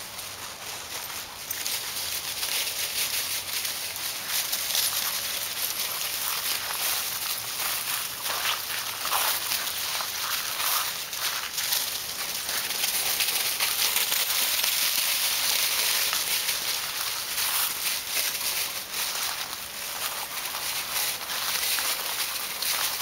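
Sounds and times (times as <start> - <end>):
dry leaves crunching underfoot: 0.0 - 23.0.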